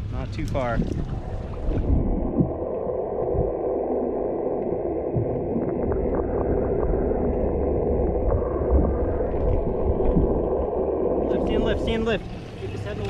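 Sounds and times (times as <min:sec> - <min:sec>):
muffled underwater water rush: 0:00.0 - 0:13.0.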